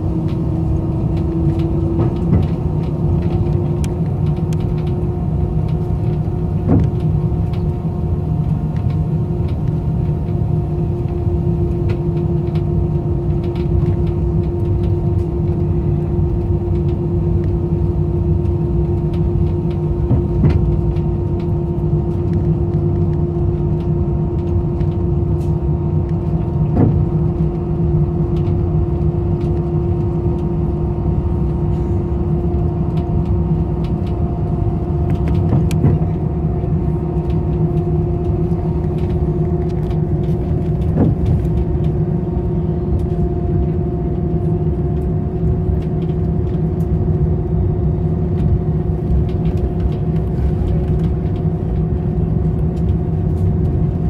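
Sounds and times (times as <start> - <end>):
constant humming tones: 0.0 - 54.0
jet engines low rumble: 0.0 - 54.0.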